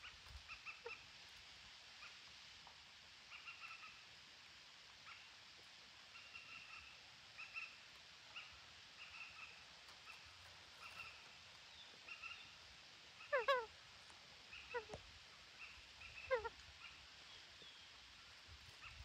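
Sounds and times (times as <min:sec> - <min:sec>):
low background hiss: 0:00.0 - 0:19.0.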